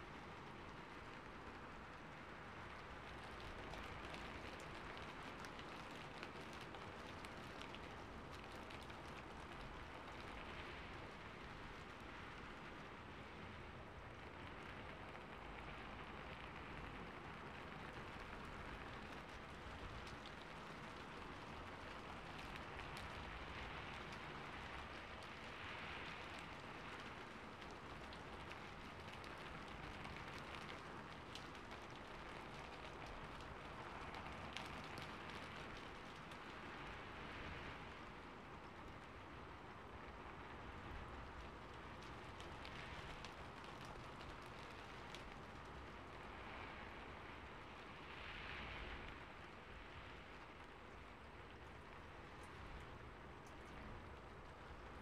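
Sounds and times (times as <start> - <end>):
raindrop ticks: 0.0 - 55.0
steady rain hiss: 0.0 - 55.0.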